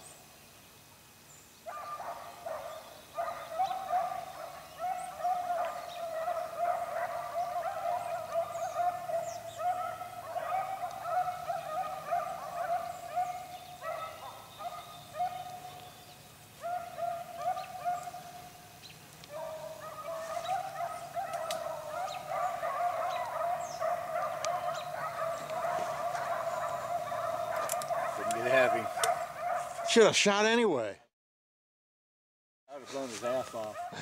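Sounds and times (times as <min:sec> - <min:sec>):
dogs baying: 0:01.7 - 0:30.1, 0:33.3 - 0:34.0.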